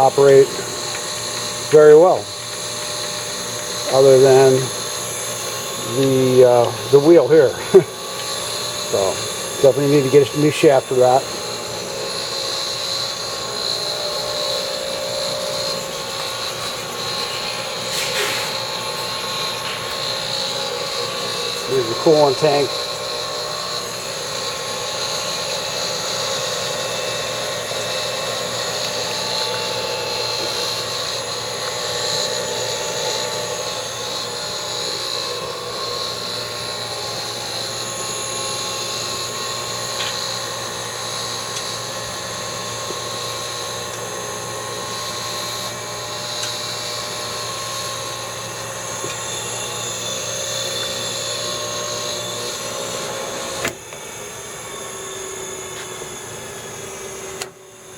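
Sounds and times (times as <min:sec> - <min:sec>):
surface grinder humming and whining: 0:00.0 - 0:57.9.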